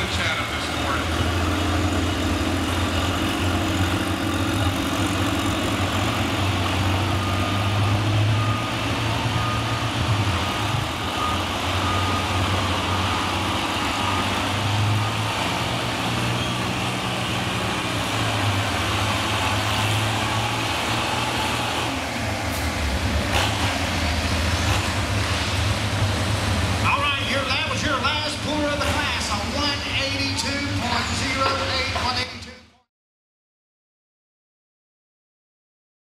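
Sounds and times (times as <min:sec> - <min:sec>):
tractor engine idling: 0:00.0 - 0:32.6.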